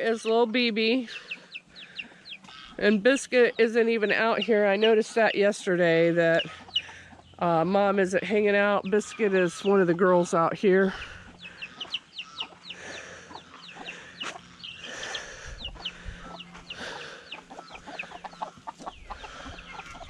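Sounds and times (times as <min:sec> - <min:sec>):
hens clucking: 0:00.0 - 0:20.0
chicks peeping: 0:01.0 - 0:20.0.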